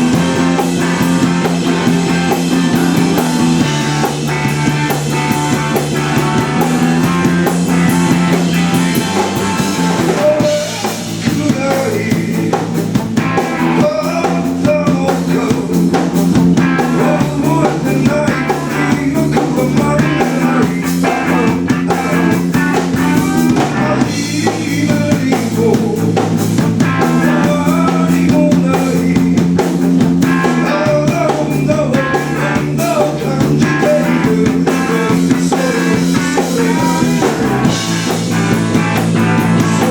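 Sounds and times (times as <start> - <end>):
drum kit: 0.0 - 39.9
electric guitar: 0.0 - 39.9
low bass notes: 0.0 - 39.9.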